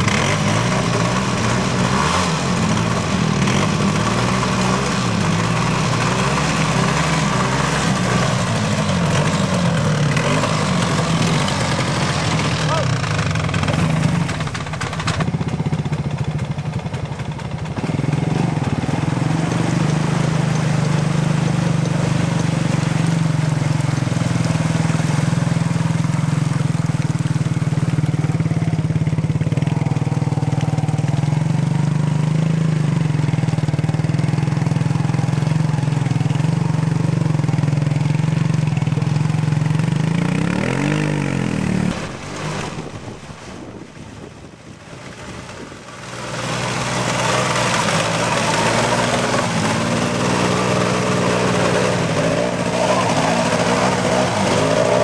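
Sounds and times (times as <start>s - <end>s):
atv engine running: 0.0s - 55.0s
water splashing: 0.0s - 55.0s.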